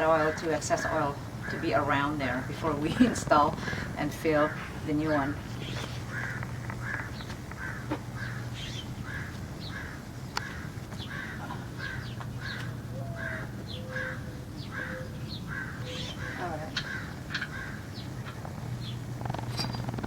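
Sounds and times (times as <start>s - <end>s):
bird rasping calls: 0.0s - 20.0s
steady low hum: 0.0s - 20.0s.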